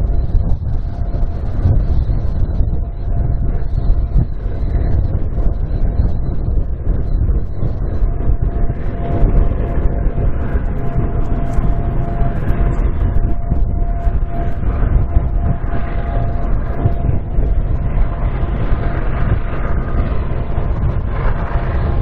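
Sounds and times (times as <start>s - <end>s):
freight train rumble: 0.0s - 22.0s
steady whine: 0.0s - 22.0s.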